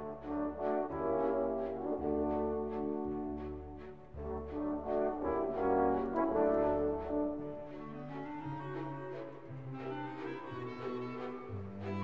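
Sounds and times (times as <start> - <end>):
slow brass-like instrumental music: 0.0 - 12.0.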